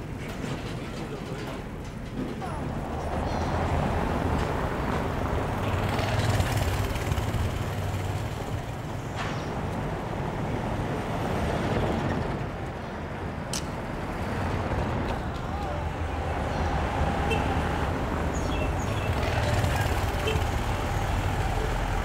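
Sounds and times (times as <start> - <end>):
cars driving past: 2.4 - 22.0.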